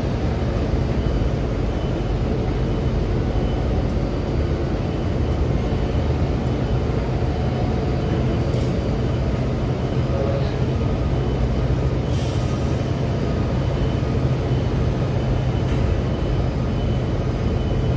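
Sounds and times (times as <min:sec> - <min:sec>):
ship diesel engines droning: 0:00.0 - 0:17.9.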